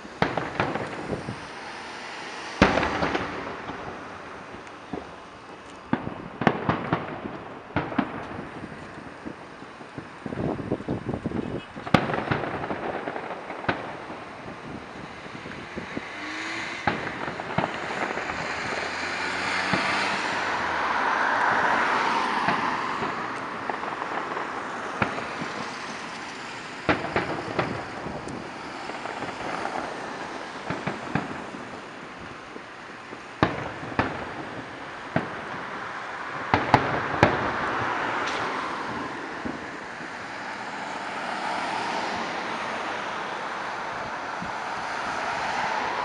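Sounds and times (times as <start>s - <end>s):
distant fireworks bangs: 0.0s - 46.0s
street traffic passing: 0.0s - 46.0s.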